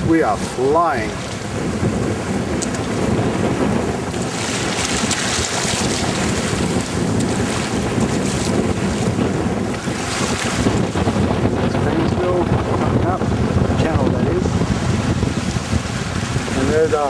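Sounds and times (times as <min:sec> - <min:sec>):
water rushing along a hull: 0:00.0 - 0:17.0
wind buffeting microphone: 0:00.0 - 0:17.0.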